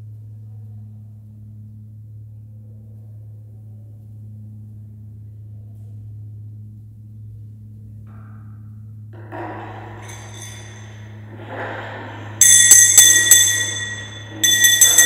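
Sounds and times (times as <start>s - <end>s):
low drone: 0.2s - 15.0s.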